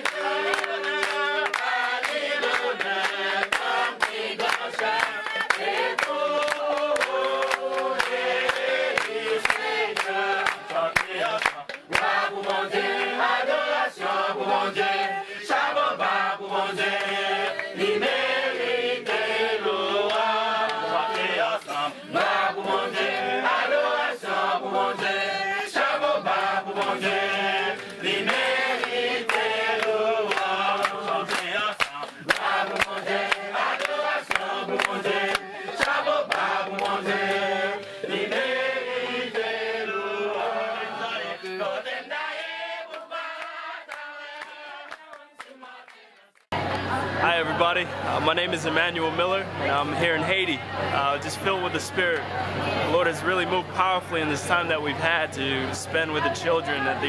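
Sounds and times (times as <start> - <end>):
group of voices chanting: 0.0 - 46.3.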